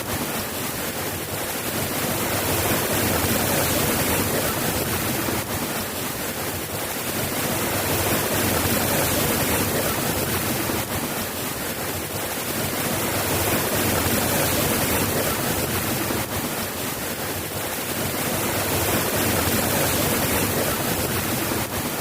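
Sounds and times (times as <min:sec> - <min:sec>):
soft rain hiss: 0:00.0 - 0:22.0.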